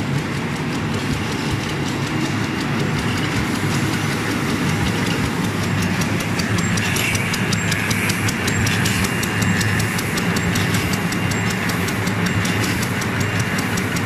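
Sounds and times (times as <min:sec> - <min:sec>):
fast regular clicking: 0:00.0 - 0:14.0
machine hum: 0:00.0 - 0:14.0.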